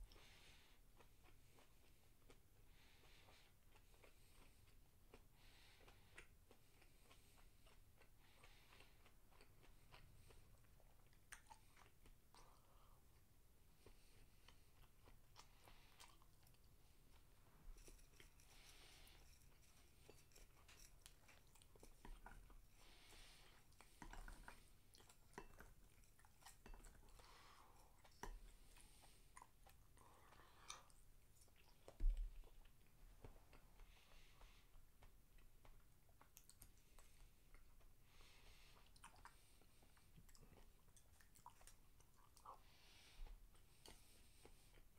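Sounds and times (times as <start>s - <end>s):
person chewing with wet mouth sounds: 0.0s - 44.9s.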